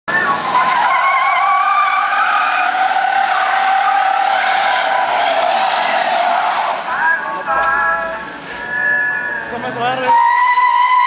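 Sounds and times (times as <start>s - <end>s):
truck tyres squealing: 0.1s - 11.0s.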